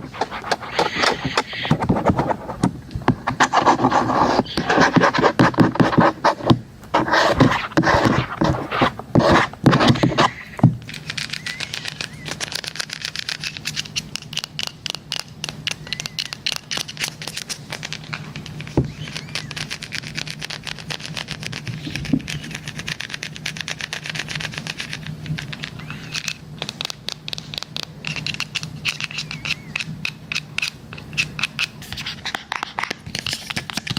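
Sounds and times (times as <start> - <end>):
steady low hum: 0.0 - 33.9
tapping and scratching on device: 0.0 - 33.9.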